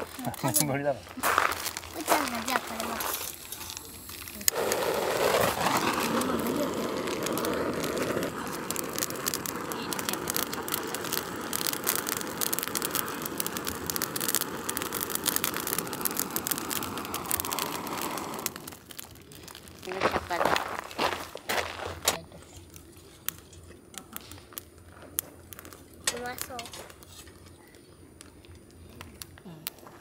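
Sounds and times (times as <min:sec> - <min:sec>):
fire-lighting tool rushing hiss: 0:00.0 - 0:27.6.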